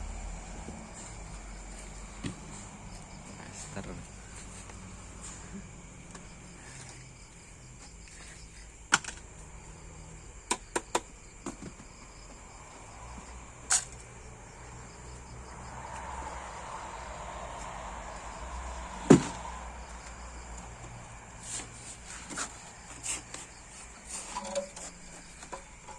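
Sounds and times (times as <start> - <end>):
crickets chirring: 0.0 - 25.9.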